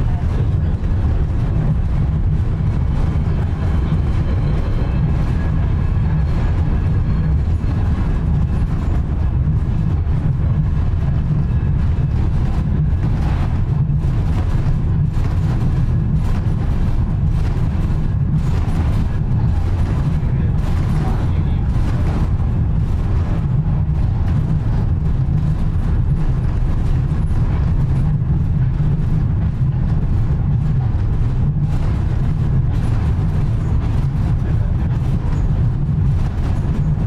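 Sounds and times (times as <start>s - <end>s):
funicular car rumbling on rails: 0.0s - 37.0s.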